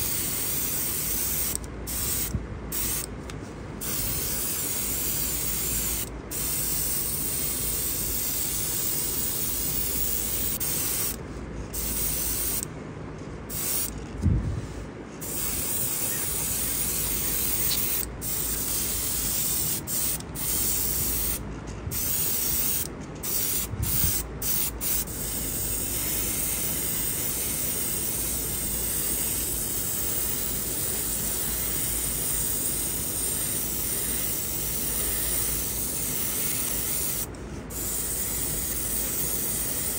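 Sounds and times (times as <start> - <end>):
airbrush spraying hiss: 0.0 - 3.1, 3.8 - 11.2, 11.8 - 12.7, 13.5 - 13.9, 15.2 - 39.9.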